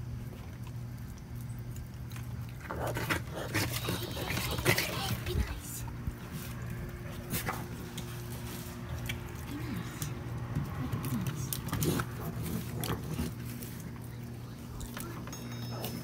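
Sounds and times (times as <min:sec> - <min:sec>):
raccoons chewing: 0:00.0 - 0:16.0
steady low hum: 0:00.0 - 0:16.0
pats on wooden deck: 0:00.1 - 0:16.0.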